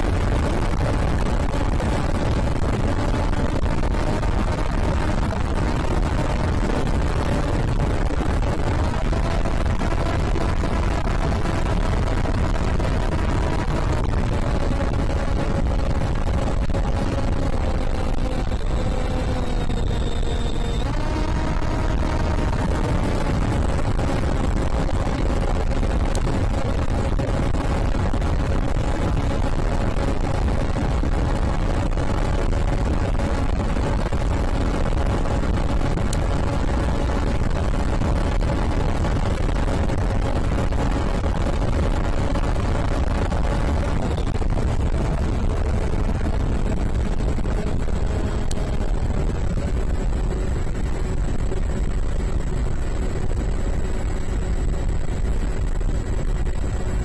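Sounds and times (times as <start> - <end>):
motor and propeller drone: 0.0 - 57.0
wind rush and buffeting: 0.0 - 57.0.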